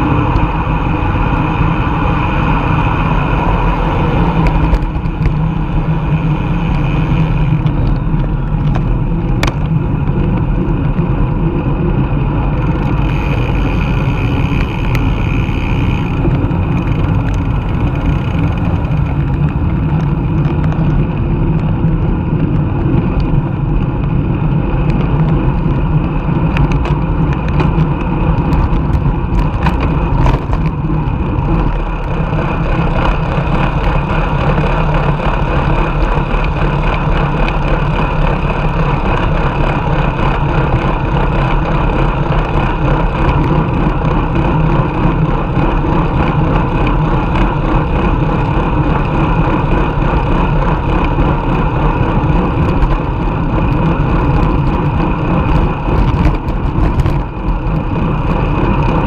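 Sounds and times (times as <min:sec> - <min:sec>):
tyre road noise: 0:00.0 - 0:59.0.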